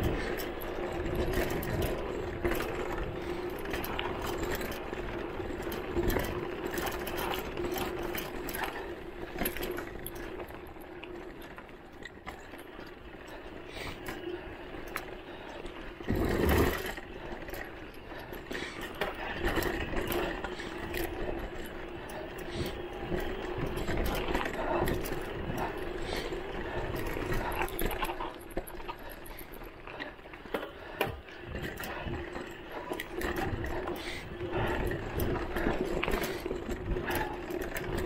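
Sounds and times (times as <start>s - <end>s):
bike rattling over bumps: 0.0s - 38.0s.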